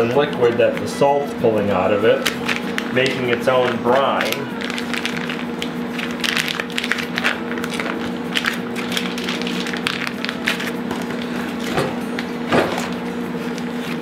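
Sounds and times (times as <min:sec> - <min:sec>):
refrigerator cooling unit hum: 0:00.0 - 0:14.0
plastic bags crinkling: 0:02.1 - 0:14.0.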